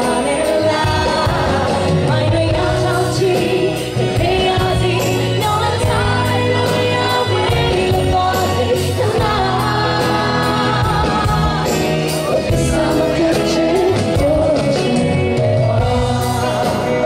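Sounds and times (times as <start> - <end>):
live band playing: 0.0 - 17.0
woman singing pop ballad: 0.0 - 17.0.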